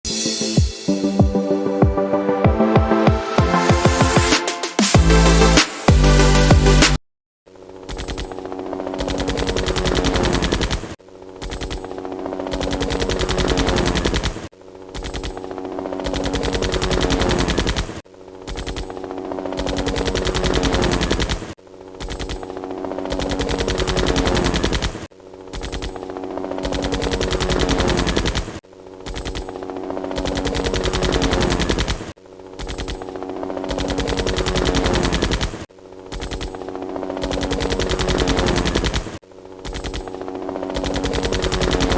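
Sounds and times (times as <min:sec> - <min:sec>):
helicopter rotor chop: 0:07.6 - 0:41.9.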